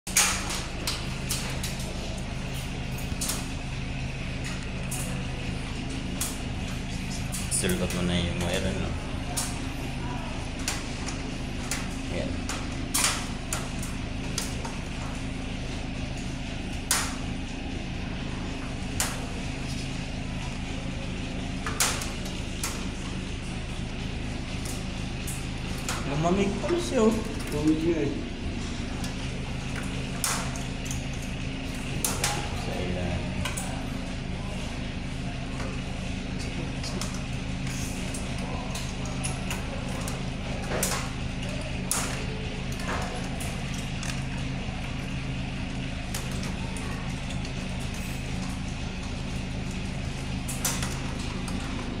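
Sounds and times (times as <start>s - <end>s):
low machine hum: 0.1s - 52.0s.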